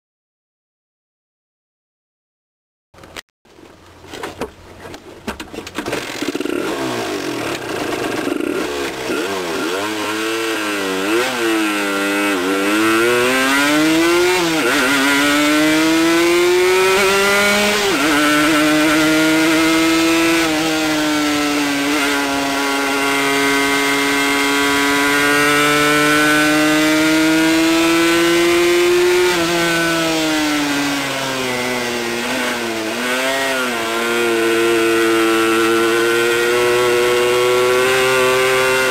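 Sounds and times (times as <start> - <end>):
two-stroke motorcycle engine revving: 5.8 - 38.9.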